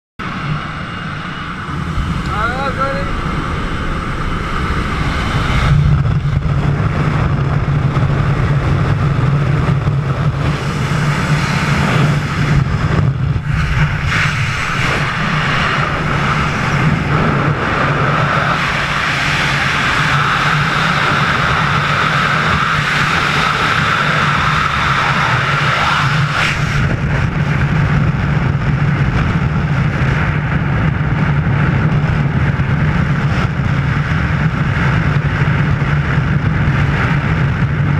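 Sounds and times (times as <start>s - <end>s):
wind rushing over microphone: 0.2s - 37.9s.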